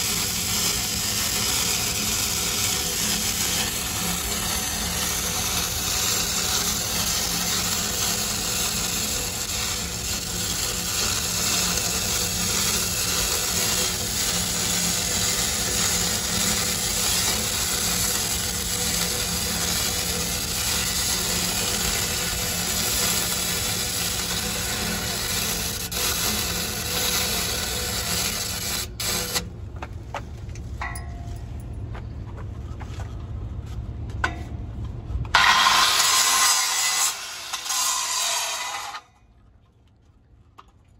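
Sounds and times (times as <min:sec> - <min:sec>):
welding arc sizzling: 0:00.0 - 0:29.6, 0:35.3 - 0:39.1.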